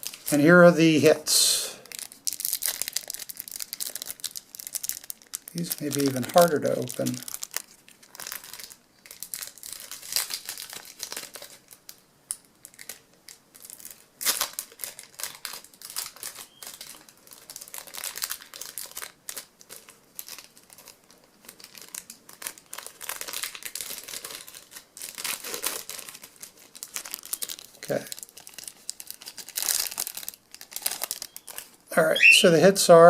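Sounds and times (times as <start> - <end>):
plastic wrappers crinkling and ripping: 0.0 - 1.1, 1.7 - 32.8.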